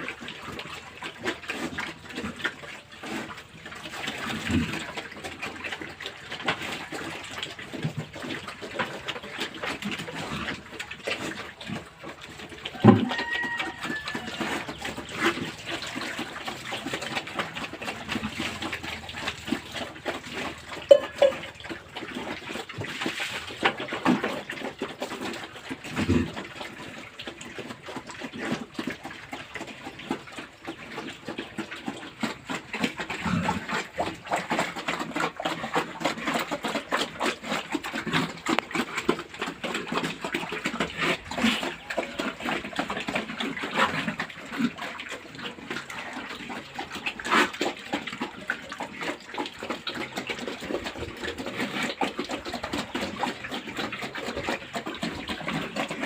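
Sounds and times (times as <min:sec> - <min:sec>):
pigs chomping and slurping: 0:00.0 - 0:56.0
pigs grunting: 0:00.0 - 0:56.0.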